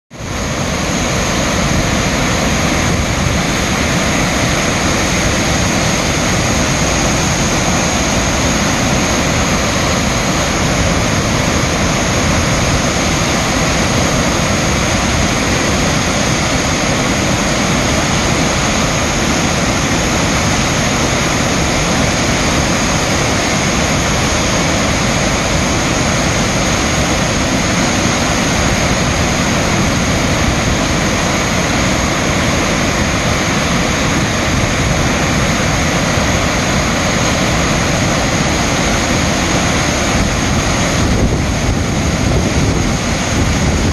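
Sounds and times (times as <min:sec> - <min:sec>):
waterfall rushing: 0:00.1 - 0:43.9.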